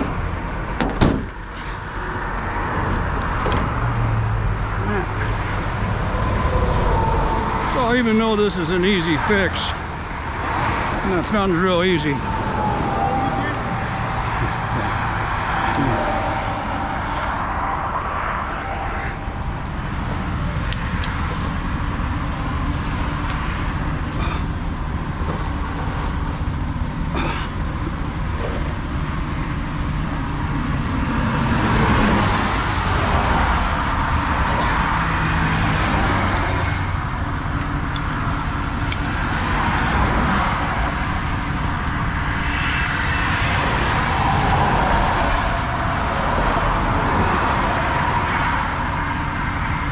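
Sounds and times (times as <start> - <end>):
highway traffic rushing past: 0.0 - 49.9.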